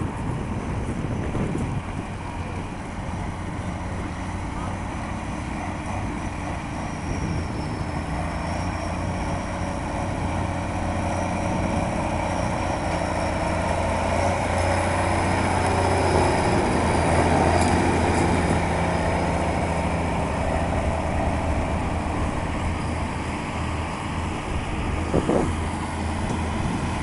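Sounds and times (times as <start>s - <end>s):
tractor diesel engine working hard: 0.0s - 27.0s.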